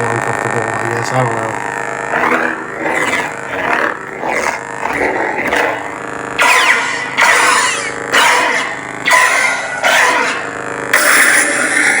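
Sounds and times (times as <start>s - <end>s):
lightsaber electronic hum: 0.0s - 12.0s.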